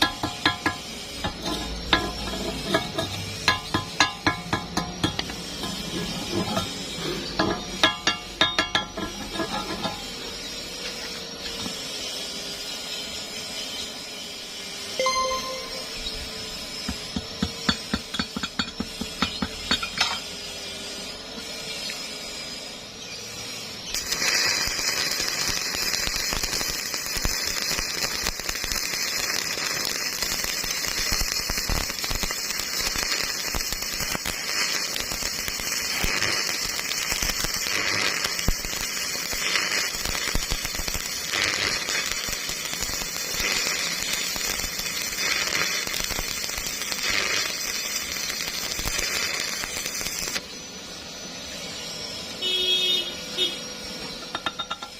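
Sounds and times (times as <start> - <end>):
welding arc crackling: 0.0 - 12.7, 14.5 - 50.6, 51.5 - 54.9.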